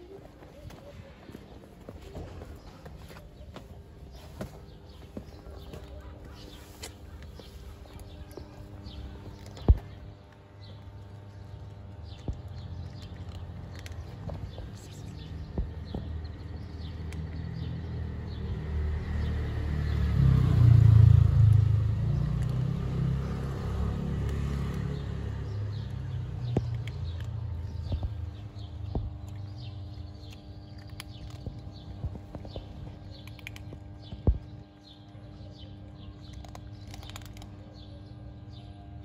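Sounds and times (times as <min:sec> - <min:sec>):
birds chirping faintly: 0:00.0 - 0:39.0
vehicle passing rumble: 0:04.0 - 0:37.5.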